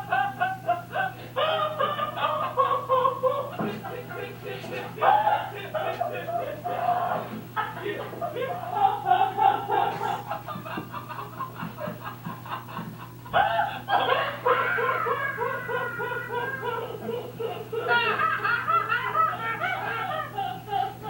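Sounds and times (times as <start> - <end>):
person laughing in rhythmic pulses: 0.0 - 21.0.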